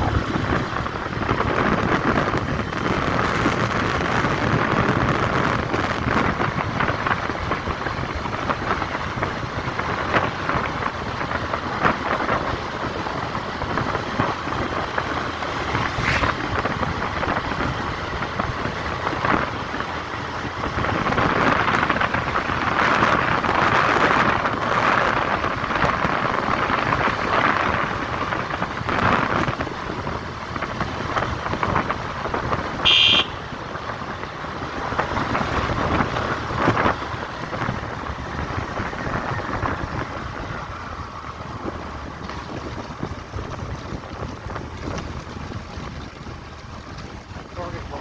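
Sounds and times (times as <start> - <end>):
vehicle road noise: 0.0 - 48.0
wind rushing over microphone: 0.0 - 48.0.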